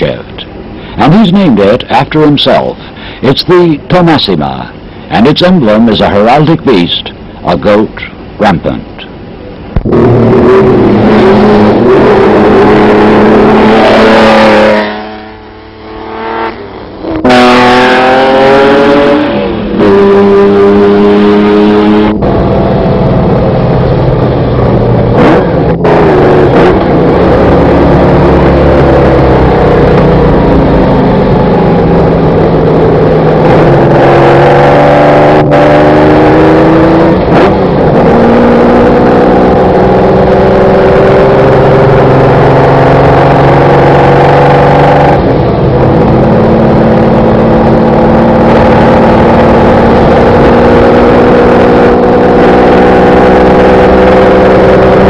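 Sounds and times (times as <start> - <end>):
sports car engine accelerating: 9.7 - 55.0.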